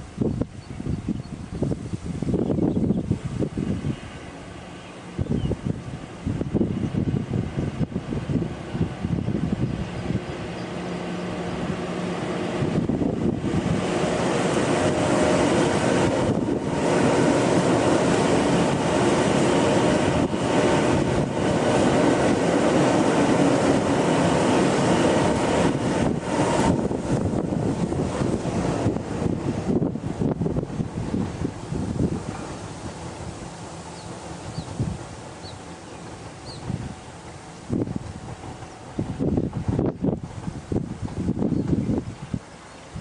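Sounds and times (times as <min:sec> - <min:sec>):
train rumbling across steel bridge: 0:00.0 - 0:43.0.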